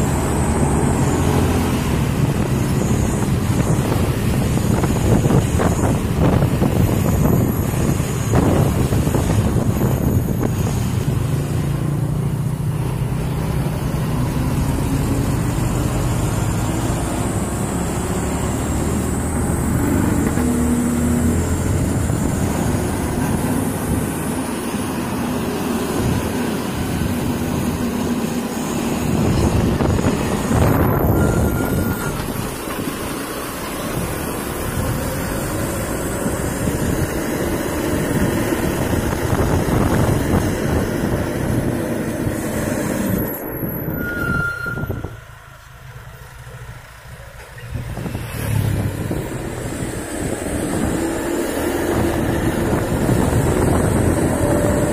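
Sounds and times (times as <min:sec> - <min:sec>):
trucks passing: 0:00.0 - 0:54.9.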